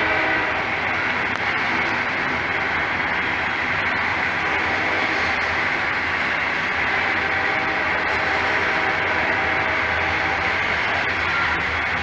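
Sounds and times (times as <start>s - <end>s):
freight train rolling past: 0.0s - 12.0s.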